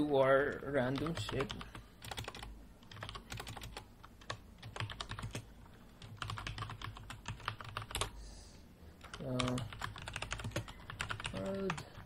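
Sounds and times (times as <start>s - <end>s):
computer keyboard keys clicking: 0.4s - 8.2s, 9.0s - 12.0s.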